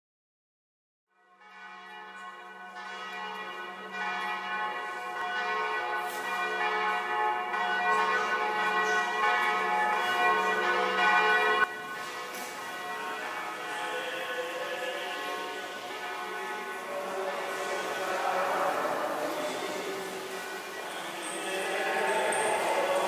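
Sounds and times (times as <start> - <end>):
church bells ringing: 1.2 - 23.0.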